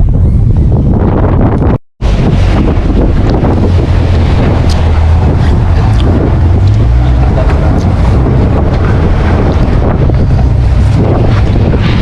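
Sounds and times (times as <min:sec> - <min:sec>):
wind buffeting microphone: 0:00.0 - 0:12.0
sea washing: 0:02.0 - 0:12.0.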